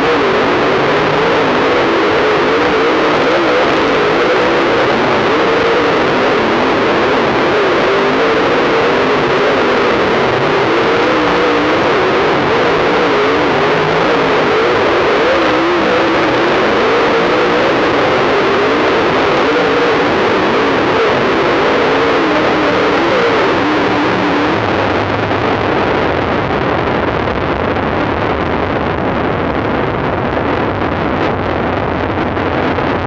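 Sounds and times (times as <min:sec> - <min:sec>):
distorted race car engine: 0:00.0 - 0:33.0.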